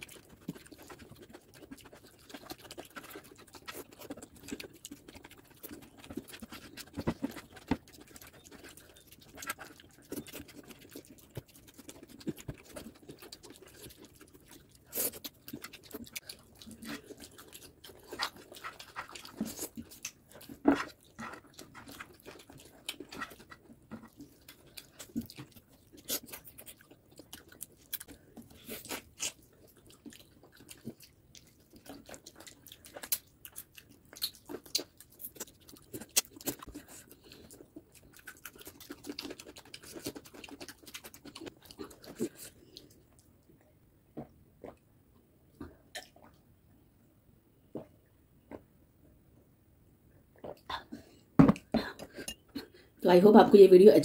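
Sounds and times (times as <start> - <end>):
wet chewing: 0.0 - 44.9.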